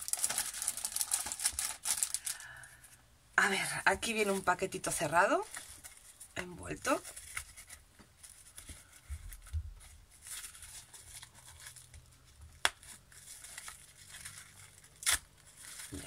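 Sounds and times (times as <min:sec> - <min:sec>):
wrapping paper crinkling: 0:00.0 - 0:02.7, 0:04.0 - 0:16.0.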